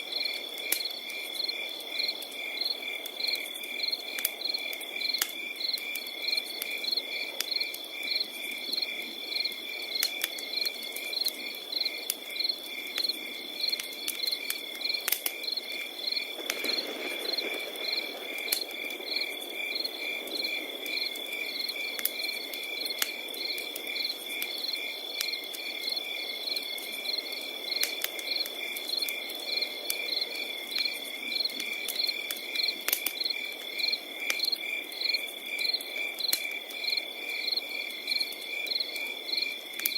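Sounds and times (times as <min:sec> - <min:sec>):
wood fire crackling: 0:00.0 - 0:39.9
cricket chirping: 0:00.1 - 0:39.9
cricket trilling: 0:00.2 - 0:39.9.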